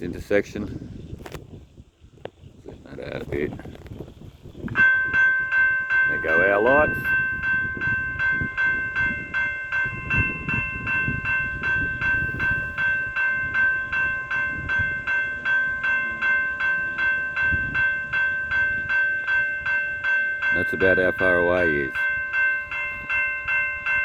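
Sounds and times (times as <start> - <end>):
level crossing warning bell: 4.7 - 24.0.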